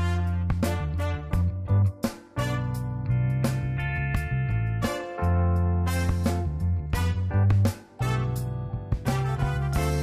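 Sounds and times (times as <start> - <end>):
music with bass and drums: 0.0 - 10.0.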